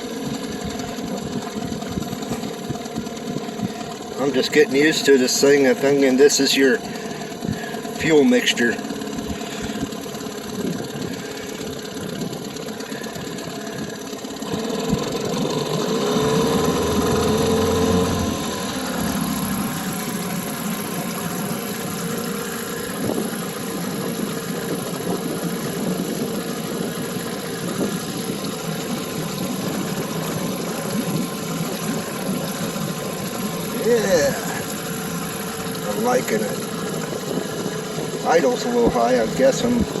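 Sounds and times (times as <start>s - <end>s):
outboard motor fast idle: 0.0s - 40.0s.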